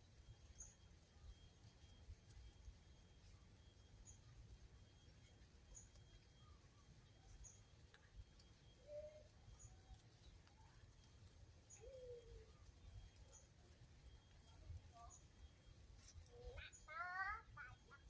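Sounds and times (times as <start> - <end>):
faint high chirps: 0.0 - 18.0.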